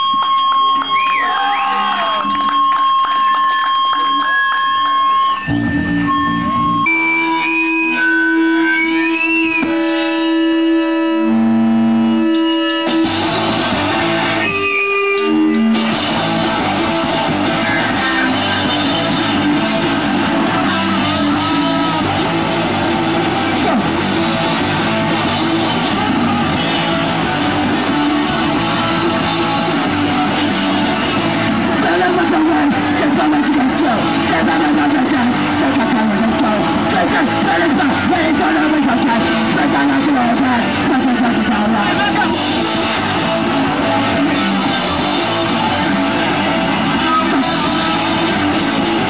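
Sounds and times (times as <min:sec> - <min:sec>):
punk band playing: 0:00.0 - 0:49.0
ringing electric guitar notes: 0:00.0 - 0:49.0.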